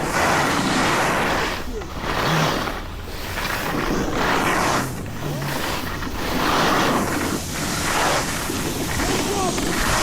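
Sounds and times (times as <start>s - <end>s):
edges scraping packed snow: 0.0s - 10.0s.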